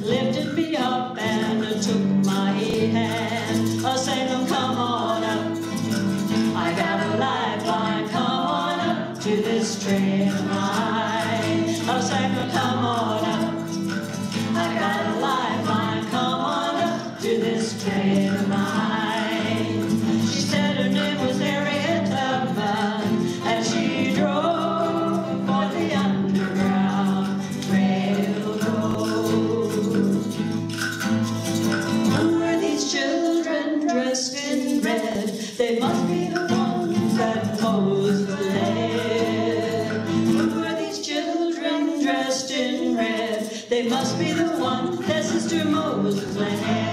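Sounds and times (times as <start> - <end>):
women singing in harmony: 0.0 - 30.4, 32.0 - 46.9
strummed acoustic guitars: 0.0 - 46.9.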